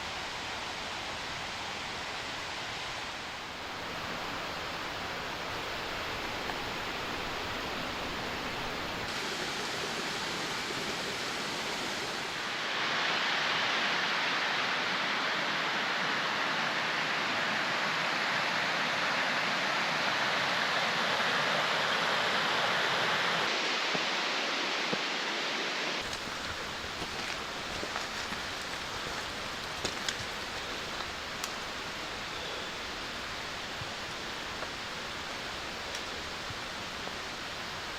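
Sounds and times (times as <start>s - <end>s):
mountain stream cascade rushing: 0.0s - 37.9s.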